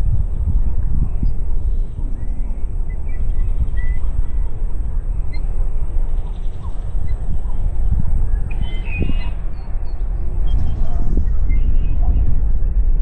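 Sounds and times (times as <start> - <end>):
bird calls and chirps: 0.0 - 4.6, 5.3 - 12.4
wind on microphone: 0.0 - 13.0.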